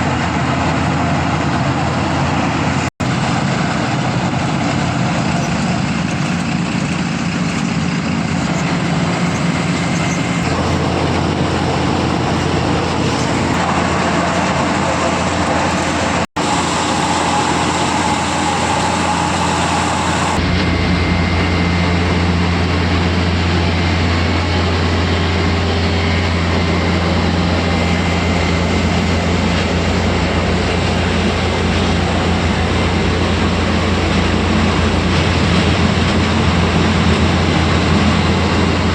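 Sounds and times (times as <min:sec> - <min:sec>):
milling machine humming and grinding: 0:00.0 - 0:38.9.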